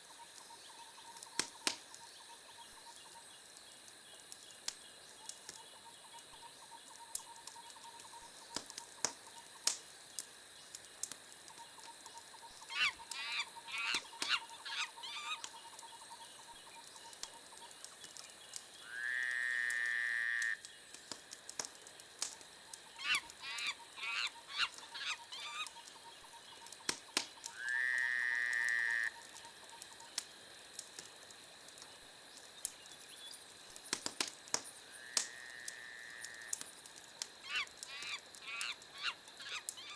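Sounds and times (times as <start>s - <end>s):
wood fire crackling and popping: 0.1s - 39.9s.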